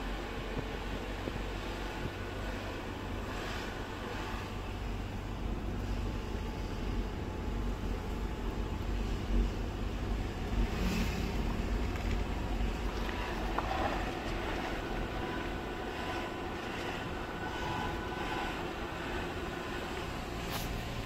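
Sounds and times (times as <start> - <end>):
car interior driving rumble: 0.0 - 21.0.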